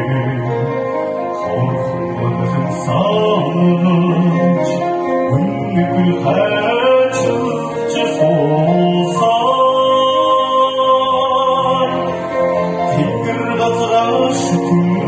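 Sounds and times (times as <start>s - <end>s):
man singing into a microphone: 0.0s - 15.0s
recorded backing track: 0.0s - 15.0s.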